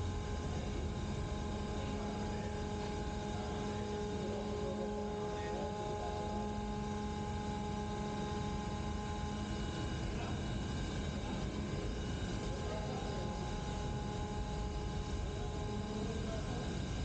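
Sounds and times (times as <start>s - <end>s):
ship machinery drone: 0.0s - 17.0s.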